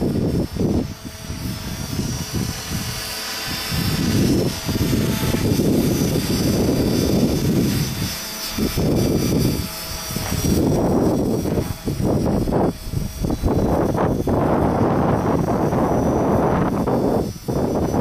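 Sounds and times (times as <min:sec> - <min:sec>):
rc helicopter motor and rotor whine: 0:00.0 - 0:18.0
wind buffeting on microphone: 0:00.0 - 0:18.0.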